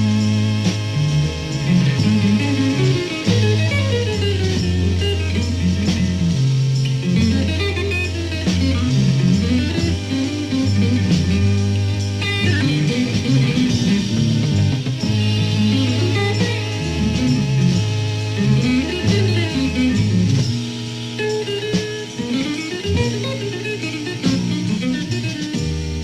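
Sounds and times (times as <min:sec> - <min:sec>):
bass guitar line: 0:00.0 - 0:26.0
electric guitar: 0:00.0 - 0:26.0.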